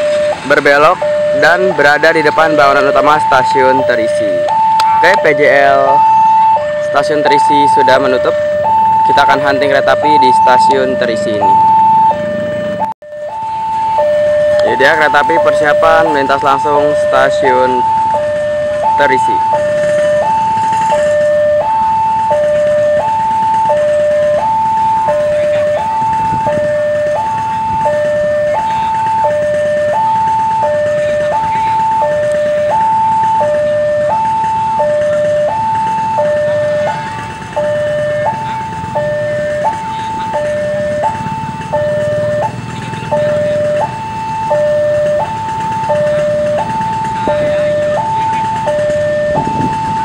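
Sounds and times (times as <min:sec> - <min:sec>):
diesel locomotive rumble: 0:00.0 - 0:50.0
level crossing two-tone alarm: 0:00.0 - 0:50.0.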